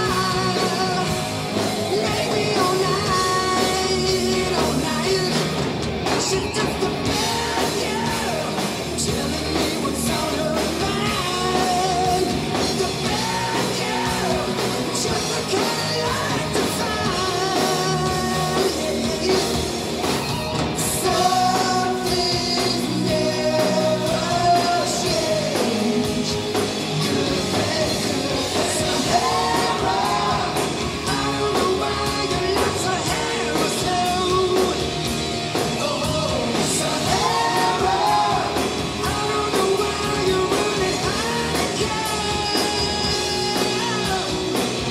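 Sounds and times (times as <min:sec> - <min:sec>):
man singing: 0:00.0 - 0:19.8, 0:20.8 - 0:44.9
bass guitar: 0:00.0 - 0:44.9
drums: 0:00.0 - 0:44.9
electric guitar: 0:00.0 - 0:44.9.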